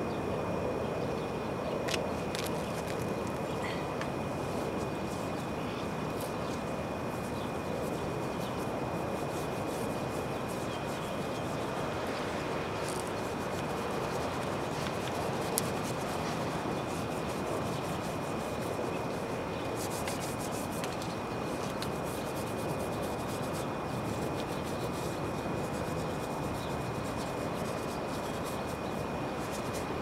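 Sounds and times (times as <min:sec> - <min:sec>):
air-conditioning unit fan whoosh: 0:00.0 - 0:30.0
constant high whine: 0:00.0 - 0:30.0.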